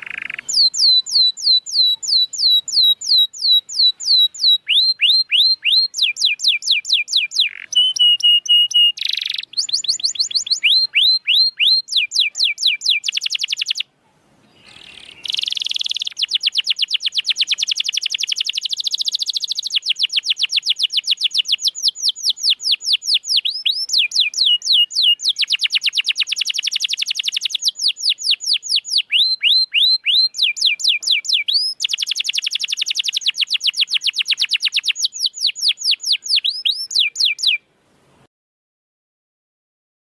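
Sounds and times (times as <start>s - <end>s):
canary singing rapid trills: 0.0s - 13.9s, 14.5s - 37.6s.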